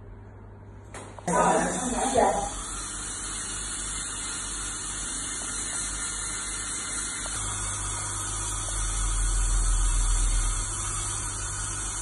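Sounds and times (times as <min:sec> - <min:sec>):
dental drill hissing: 0:01.3 - 0:12.0.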